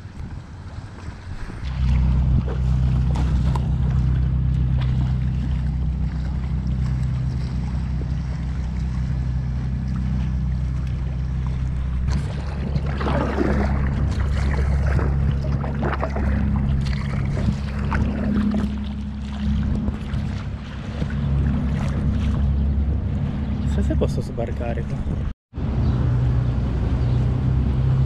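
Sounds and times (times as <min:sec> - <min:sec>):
water splashing: 0:00.0 - 0:25.3
boat engine droning: 0:00.0 - 0:28.0.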